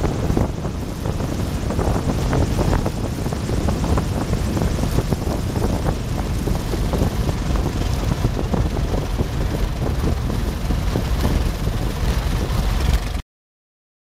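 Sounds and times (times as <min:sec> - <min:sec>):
plane engine low rumble: 0:00.0 - 0:13.2
wheels over bumpy grass: 0:00.0 - 0:13.2
wind buffeting microphone: 0:00.0 - 0:13.2.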